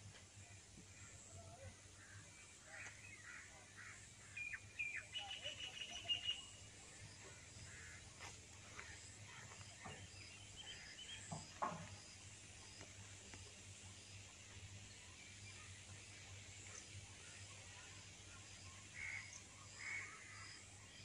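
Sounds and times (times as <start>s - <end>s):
birds chirping: 0.8s - 21.0s.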